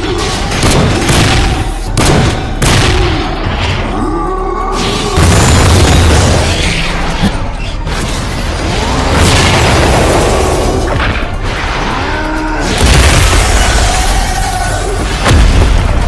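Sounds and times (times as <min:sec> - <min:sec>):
music: 0:00.0 - 0:16.0.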